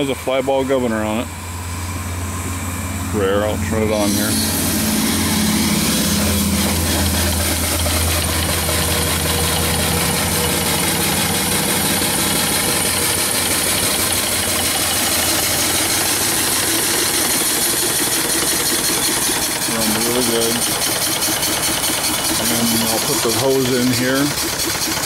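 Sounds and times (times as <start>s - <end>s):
steam engine chuffing: 0.0s - 25.0s
steam hissing: 3.8s - 25.0s.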